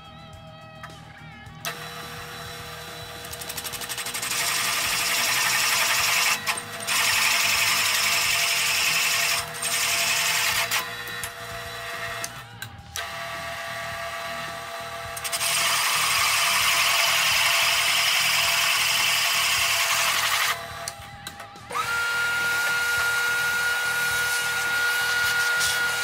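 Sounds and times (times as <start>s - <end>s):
shop vacuum whine: 0.0s - 26.0s
circle cutter scraping through wood: 1.6s - 26.0s.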